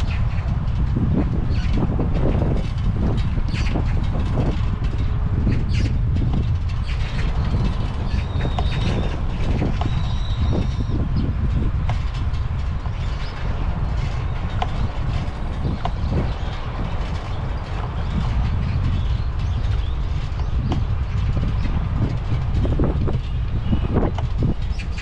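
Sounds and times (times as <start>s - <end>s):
bicycle clicks and rattles: 0.0s - 25.0s
wind rumbling on microphone: 0.0s - 25.0s.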